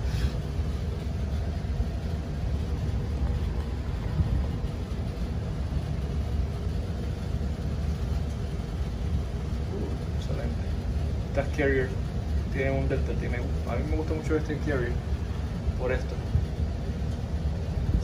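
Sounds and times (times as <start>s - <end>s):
air handler blower running: 0.0s - 18.0s.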